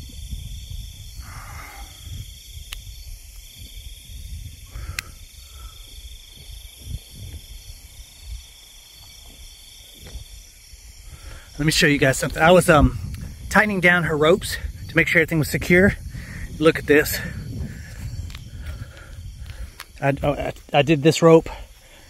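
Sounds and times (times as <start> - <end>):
night insects chirring: 0.0 - 22.0
wind gusting against microphone: 0.0 - 22.0.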